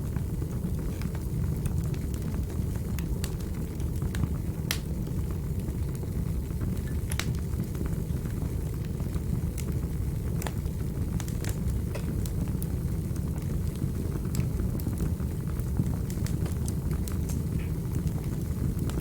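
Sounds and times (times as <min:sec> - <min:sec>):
low rumble of flames: 0:00.0 - 0:19.0
wood fire pops and crackles: 0:00.0 - 0:19.0.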